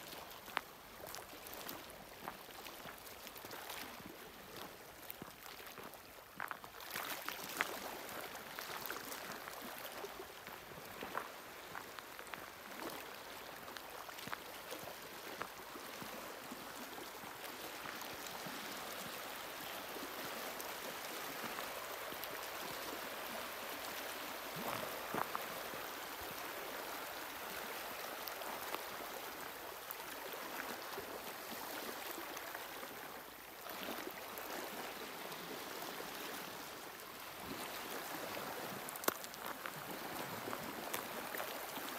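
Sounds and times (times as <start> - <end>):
faint splashes and ticks: 0.0 - 41.9
small waves lapping: 0.0 - 41.9.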